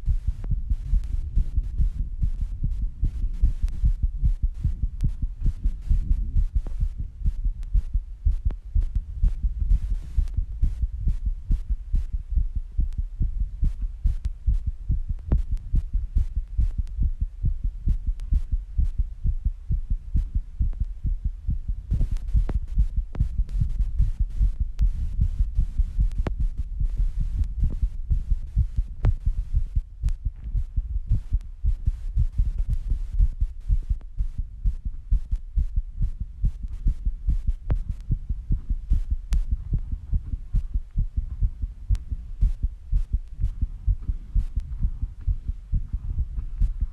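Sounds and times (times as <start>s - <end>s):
fast heartbeat: 0.0s - 46.9s.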